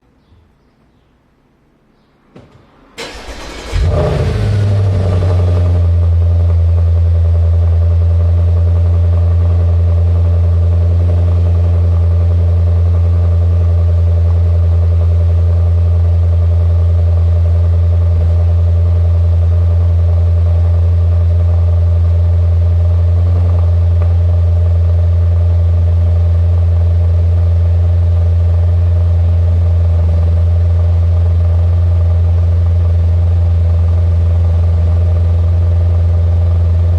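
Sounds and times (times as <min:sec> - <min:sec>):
car engine idling: 0:02.9 - 0:36.9.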